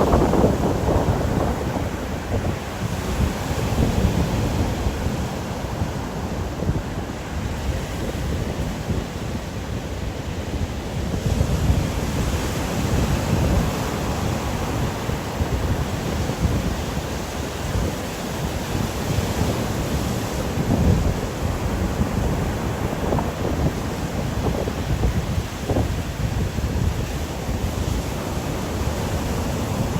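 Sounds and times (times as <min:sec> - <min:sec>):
ocean surf: 0:00.0 - 0:29.9
wind buffeting microphone: 0:00.0 - 0:29.9.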